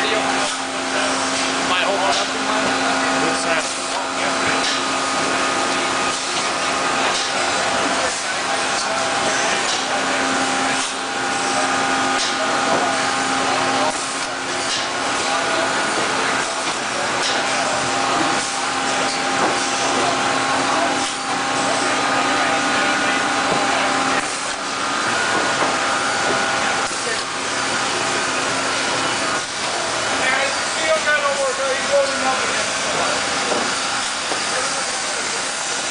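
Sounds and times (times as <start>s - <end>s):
machinery clacks and knocks: 1.3s - 11.0s, 11.8s - 35.9s.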